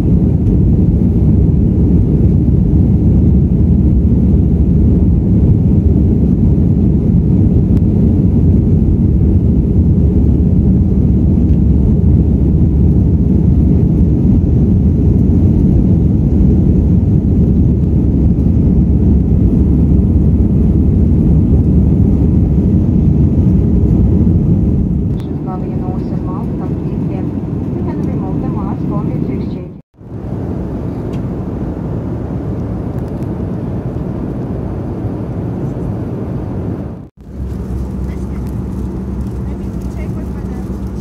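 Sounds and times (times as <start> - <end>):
aircraft cabin engine rumble: 0.0 - 41.0.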